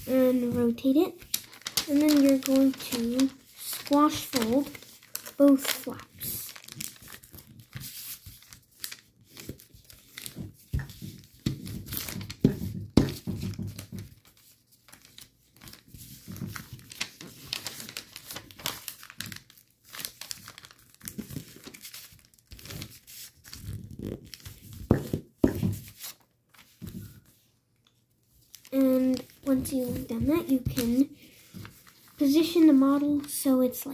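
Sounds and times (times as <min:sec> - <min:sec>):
paper crinkling and crackling: 0:00.0 - 0:33.9.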